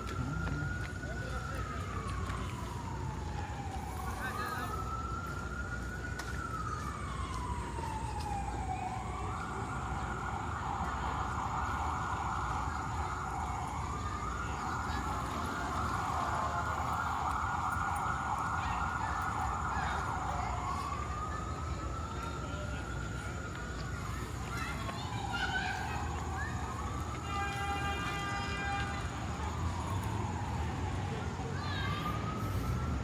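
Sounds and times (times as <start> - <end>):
emergency vehicle siren: 0.0 - 33.0
low rumble of street traffic: 0.0 - 33.0.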